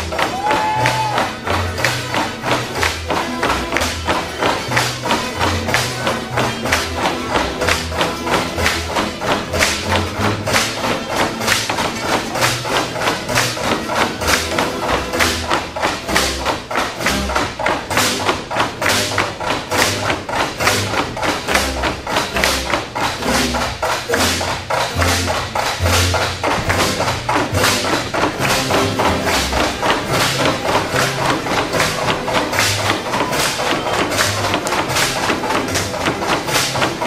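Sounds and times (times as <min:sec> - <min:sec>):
folk dance music: 0:00.0 - 0:37.0
bamboo poles knocking: 0:00.1 - 0:37.0.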